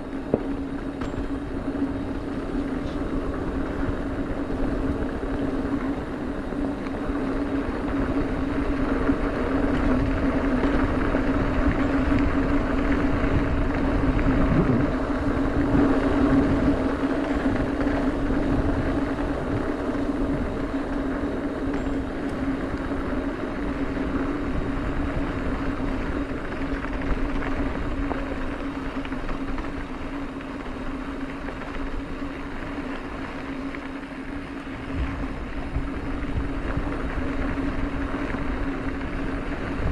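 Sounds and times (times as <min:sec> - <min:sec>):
bike tyres on dirt: 0:00.0 - 0:39.9
wind on microphone: 0:01.1 - 0:30.0, 0:34.8 - 0:39.9.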